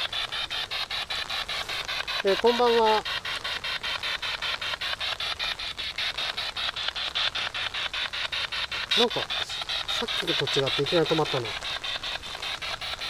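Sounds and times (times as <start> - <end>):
chopped bursts of radio static: 0.0 - 13.0.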